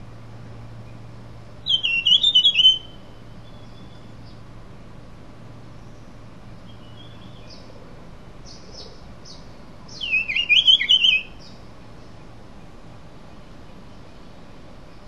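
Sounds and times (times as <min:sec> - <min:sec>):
faint steady hiss: 0:00.0 - 0:15.0
songbird chirping and warbling: 0:00.8 - 0:04.5, 0:05.6 - 0:15.0.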